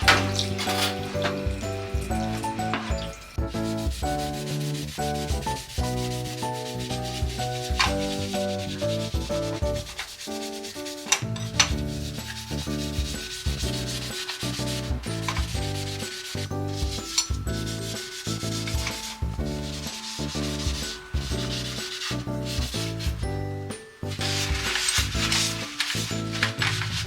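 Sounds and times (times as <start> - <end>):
background music with bass line: 0.0 - 10.0, 11.2 - 27.0
continuous scrubbing: 0.0 - 23.2, 24.2 - 27.0.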